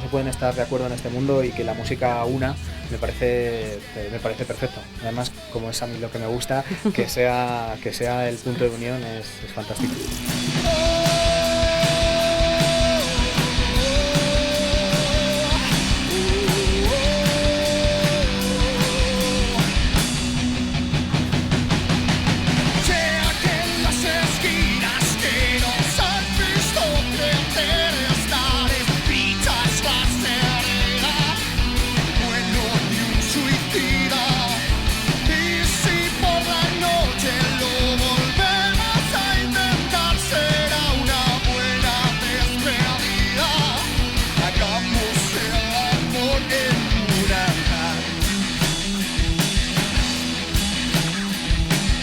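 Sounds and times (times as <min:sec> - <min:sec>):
electric guitars: 0:00.0 - 0:52.0
rock band music: 0:00.0 - 0:52.0
drum fill: 0:09.7 - 0:52.0.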